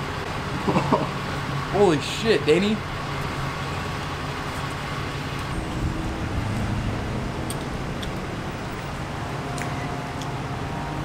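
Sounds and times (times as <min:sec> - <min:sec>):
car traffic rumble: 0:00.0 - 0:11.0.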